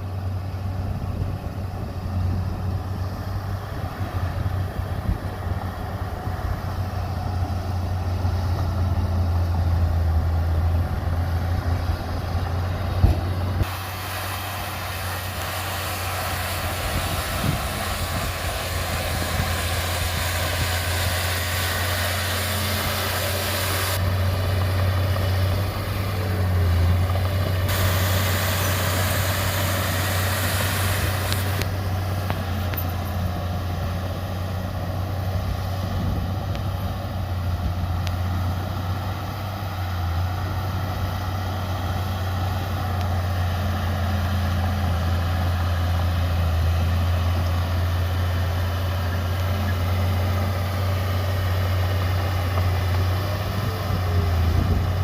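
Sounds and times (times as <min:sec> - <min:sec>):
heavy diesel machinery humming: 0:00.0 - 0:55.0.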